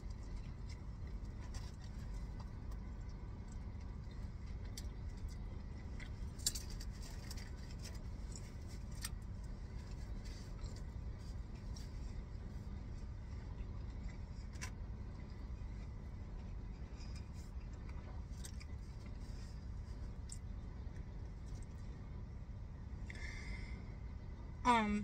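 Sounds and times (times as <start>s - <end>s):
chewing crackles and clicks: 0.0s - 22.0s
steady low rumble: 0.0s - 25.0s.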